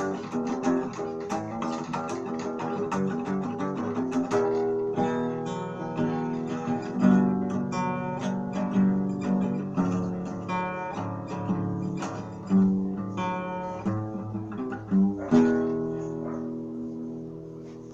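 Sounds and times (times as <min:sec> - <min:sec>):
acoustic guitar music: 0:00.0 - 0:17.9.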